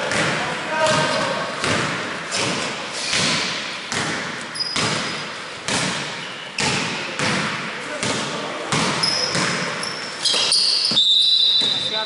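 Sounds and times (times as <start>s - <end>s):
basketball bouncing on wooden floor: 0.0s - 2.6s, 3.2s - 12.0s.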